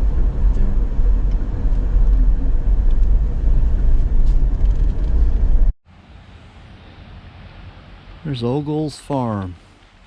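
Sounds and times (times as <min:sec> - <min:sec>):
vehicle road rumble from inside: 0:00.0 - 0:08.6.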